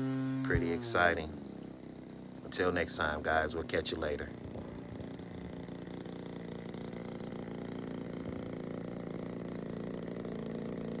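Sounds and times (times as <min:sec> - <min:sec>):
model airplane engine running: 0:00.0 - 0:11.0.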